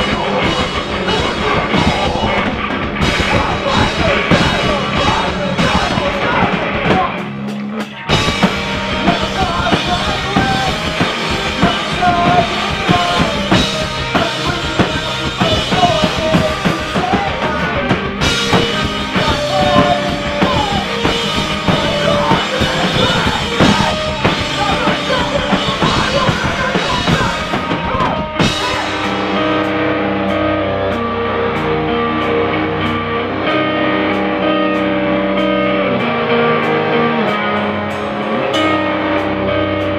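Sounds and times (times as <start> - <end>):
person singing: 0.0 - 34.8
drum kit: 0.0 - 39.9
electric guitar chords: 0.0 - 39.9.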